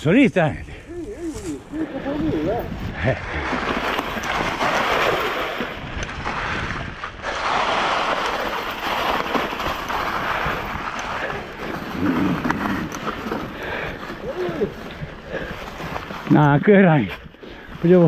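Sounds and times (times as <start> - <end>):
wind noise on microphone: 0.0 - 17.9
bike tyres rolling over leaves: 0.7 - 18.0.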